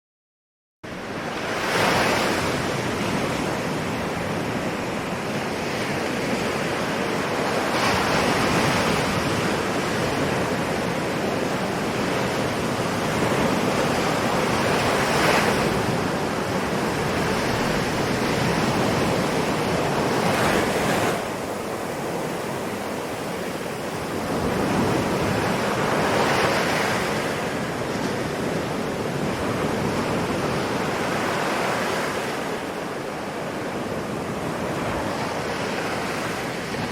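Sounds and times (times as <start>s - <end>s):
ocean waves breaking: 0.9s - 36.9s.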